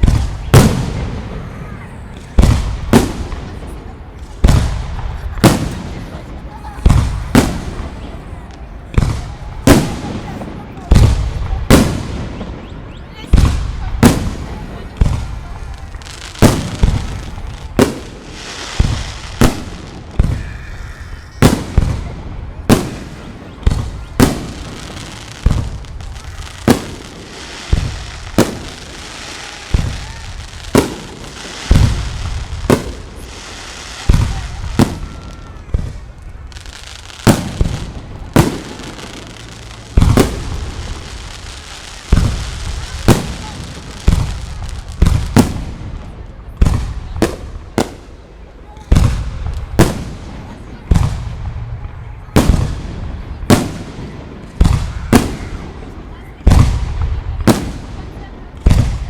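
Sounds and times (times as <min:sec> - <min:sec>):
firework crackling: 0:00.0 - 0:59.0.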